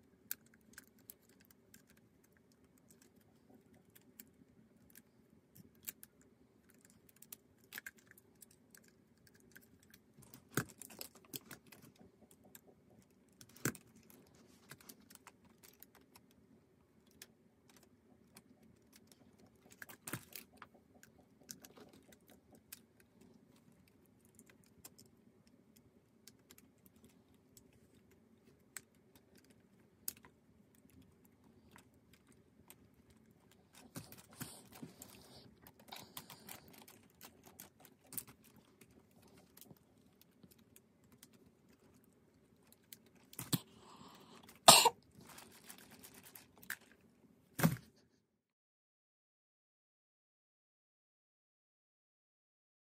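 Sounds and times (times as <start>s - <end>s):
faint steady hum: 0.0s - 48.1s.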